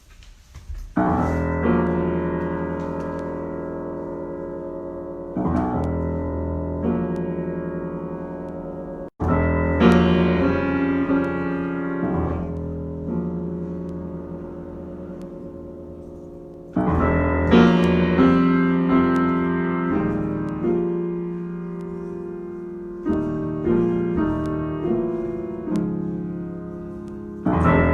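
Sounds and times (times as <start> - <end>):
piano chords ringing: 1.0 - 27.9.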